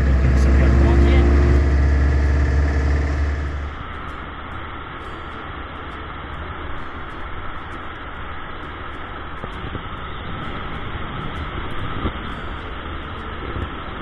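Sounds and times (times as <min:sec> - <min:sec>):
van rumbling on the road: 0:00.0 - 0:14.0.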